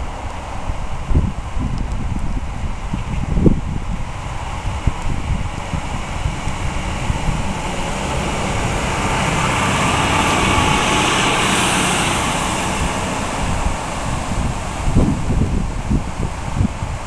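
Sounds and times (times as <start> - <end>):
diesel train passing: 0.0 - 1.6, 2.6 - 17.0
wind buffeting microphone: 0.0 - 17.0.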